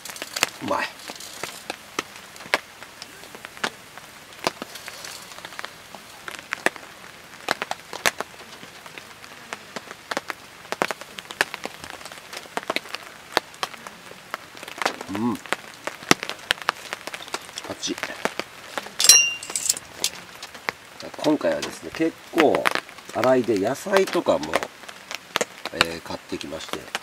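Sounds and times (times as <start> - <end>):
charcoal crackling and popping: 0.0 - 27.0
faint steady hiss: 0.0 - 27.0.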